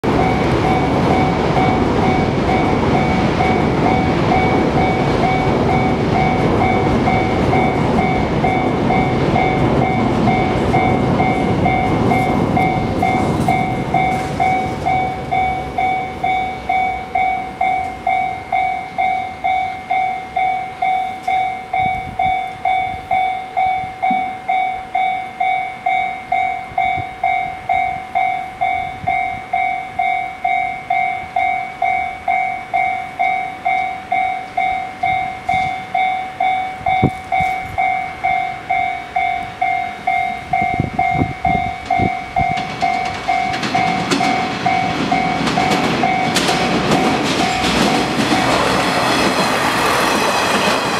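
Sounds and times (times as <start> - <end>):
level crossing warning bell: 0.0 - 50.9
train rumble: 0.0 - 50.9.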